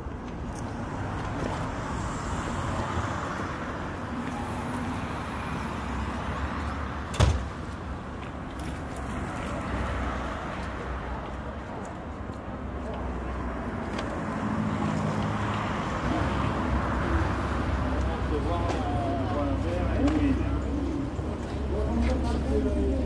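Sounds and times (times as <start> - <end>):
vehicle traffic: 0.0 - 23.0.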